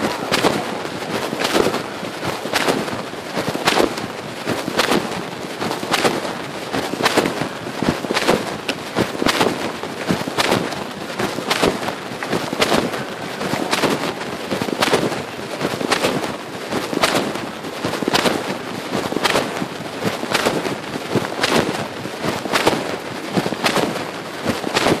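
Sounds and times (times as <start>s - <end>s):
microphone rubbing against pocket fabric: 0.0s - 25.0s.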